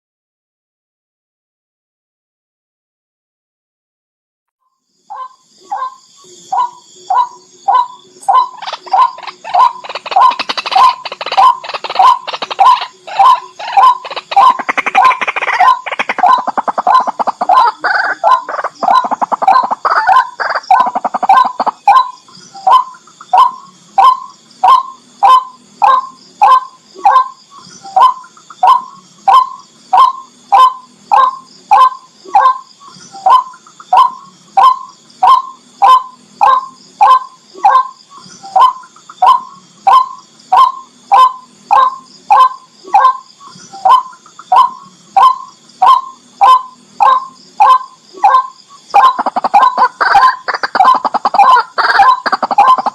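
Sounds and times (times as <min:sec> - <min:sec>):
rail bird calling: 0:05.1 - 0:52.9.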